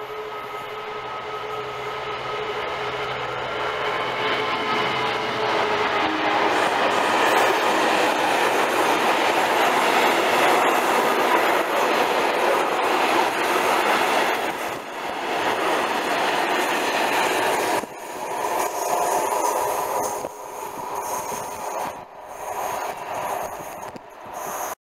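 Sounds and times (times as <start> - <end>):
freight train rolling past: 0.0 - 24.8.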